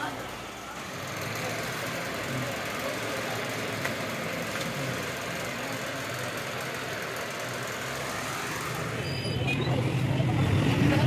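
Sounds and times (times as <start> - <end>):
street traffic noise: 0.0 - 11.0
vehicle idling hum: 0.2 - 9.1.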